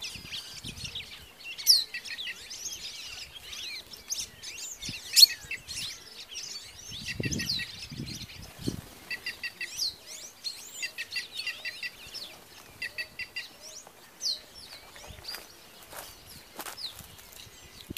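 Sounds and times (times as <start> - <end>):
birds chirping and calling: 0.0 - 17.9.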